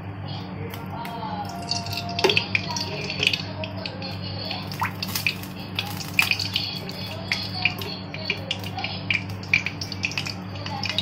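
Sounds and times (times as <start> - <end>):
steady low hum: 0.0 - 11.0
oil trickling into pan: 1.5 - 11.0.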